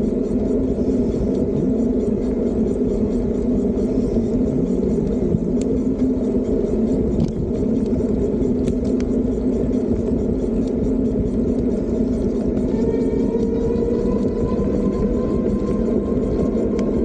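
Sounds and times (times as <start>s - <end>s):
electric bike rumble: 0.0s - 17.0s
road and wind noise: 0.0s - 17.0s.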